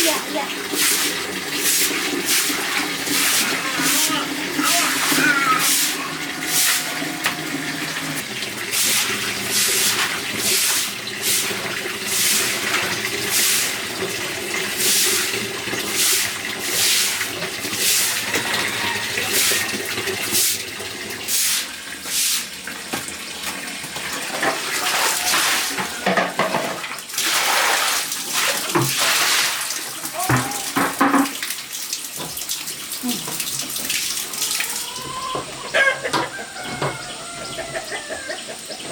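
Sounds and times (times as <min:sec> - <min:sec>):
water splashing in strokes: 0:00.0 - 0:23.2, 0:24.0 - 0:35.3.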